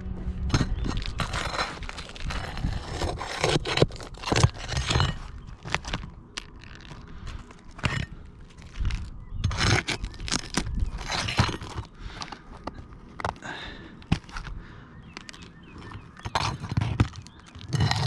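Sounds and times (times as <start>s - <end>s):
shingles crunching and scraping: 0.4s - 18.0s.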